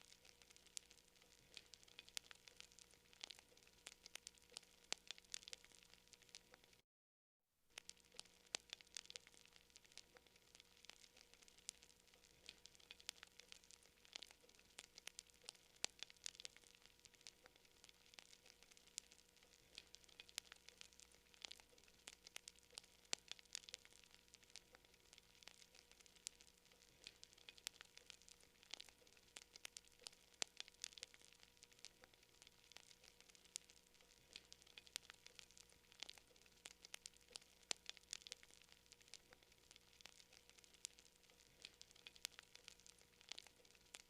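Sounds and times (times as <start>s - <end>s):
campfire crackling: 0.0s - 6.8s, 7.7s - 44.0s
faint steady hum: 0.0s - 6.8s, 7.6s - 44.0s.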